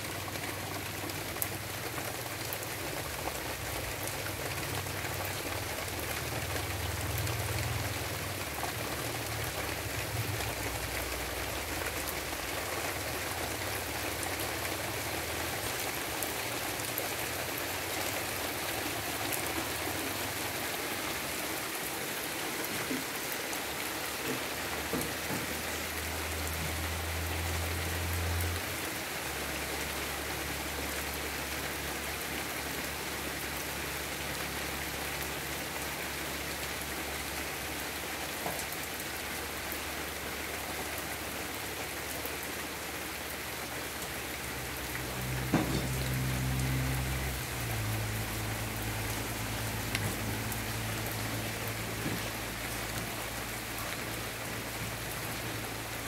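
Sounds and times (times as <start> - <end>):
rain falling on puddles: 0.0 - 56.0.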